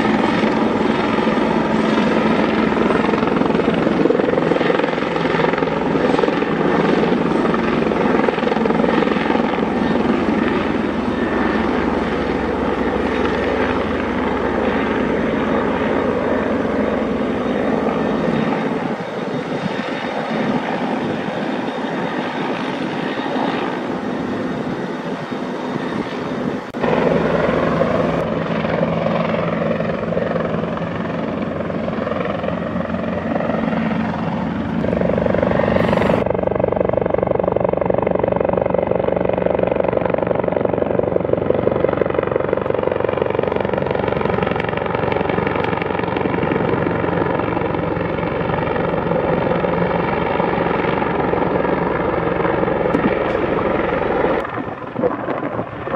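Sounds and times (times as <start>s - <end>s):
helicopter flying past: 0.0s - 55.9s.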